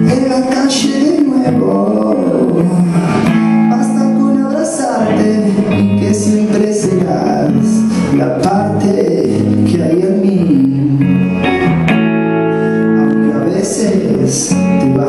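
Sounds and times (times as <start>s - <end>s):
live band with electric guitar: 0.0s - 15.0s.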